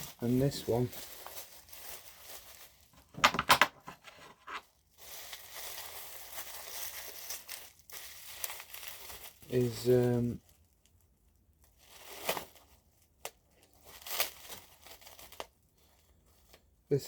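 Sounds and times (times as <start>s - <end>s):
plastic packaging crinkling: 0.0s - 16.7s.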